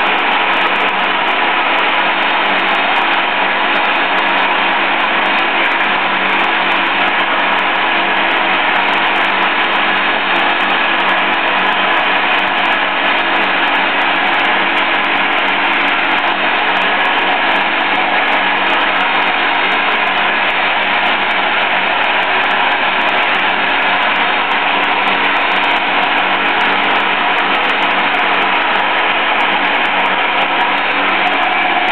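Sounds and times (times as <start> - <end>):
loud rushing noise: 0.0 - 31.9
machine hum: 0.0 - 31.9.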